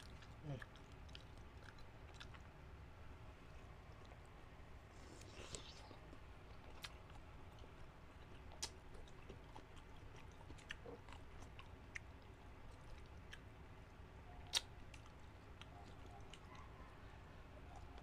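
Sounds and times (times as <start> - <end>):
close-up chewing: 0.0 - 18.0.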